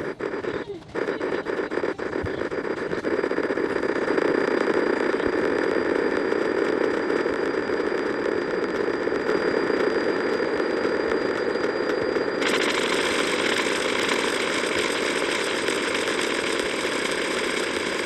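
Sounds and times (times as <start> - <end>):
harsh distorted buzz: 0.0 - 18.0.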